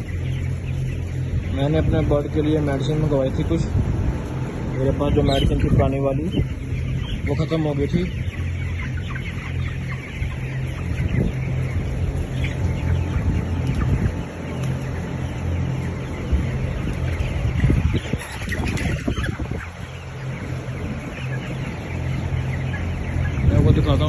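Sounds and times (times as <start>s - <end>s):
chickens clucking: 0.0s - 24.0s
steady low hum: 0.0s - 24.0s.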